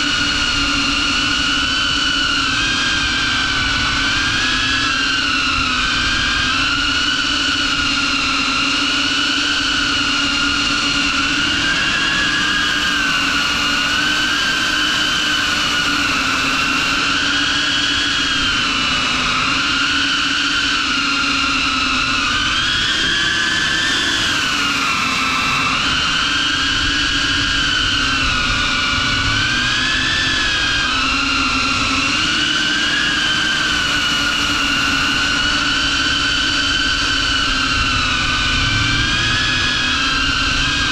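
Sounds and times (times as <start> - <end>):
drone motors whining: 0.0 - 40.9.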